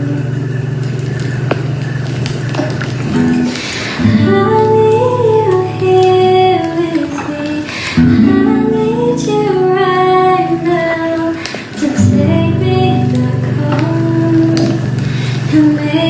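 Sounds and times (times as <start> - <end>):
woman singing: 0.0 - 0.4, 3.2 - 16.0
strummed acoustic guitar: 0.0 - 16.0.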